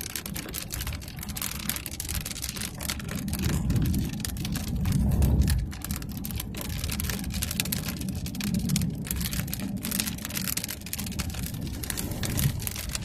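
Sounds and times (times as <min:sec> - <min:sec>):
raindrops on windshield: 0:00.0 - 0:13.0
storm wind: 0:00.0 - 0:13.0
vehicle rumble on dirt road: 0:00.0 - 0:13.0.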